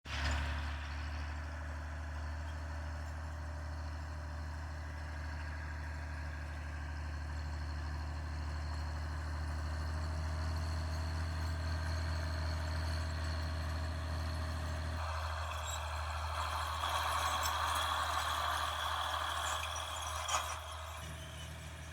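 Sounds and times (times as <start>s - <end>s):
tractor diesel engine running: 0.0s - 21.9s.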